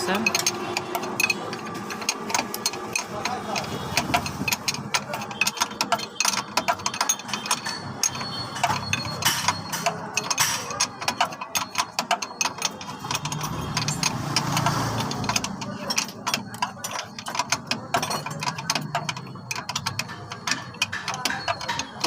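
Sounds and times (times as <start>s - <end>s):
ratchet wrench clicking: 0.0s - 22.0s.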